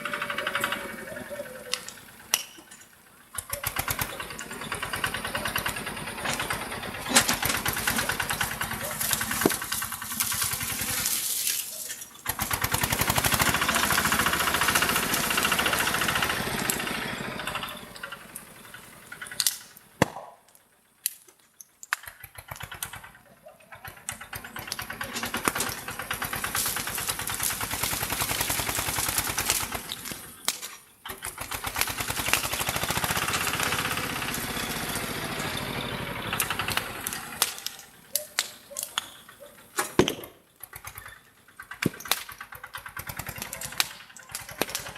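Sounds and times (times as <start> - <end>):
tractor engine revving: 0.0 - 21.0, 21.6 - 44.9
sharp cracks: 3.4 - 23.1, 24.0 - 44.9.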